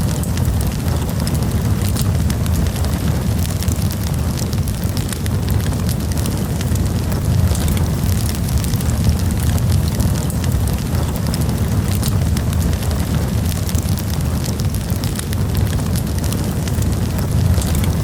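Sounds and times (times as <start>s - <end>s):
burning wood crackling: 0.0s - 18.0s
campfire flames rumbling: 0.0s - 18.0s.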